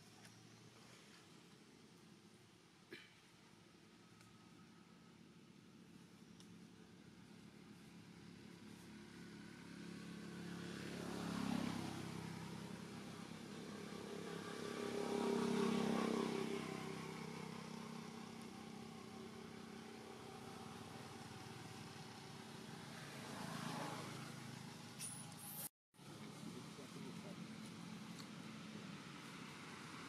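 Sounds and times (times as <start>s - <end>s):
motor vehicles passing by: 3.8s - 30.0s.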